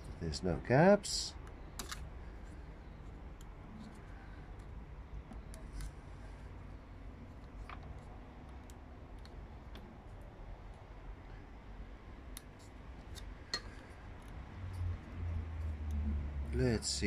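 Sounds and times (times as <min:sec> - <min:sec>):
low steady rumble: 0:02.1 - 0:17.0.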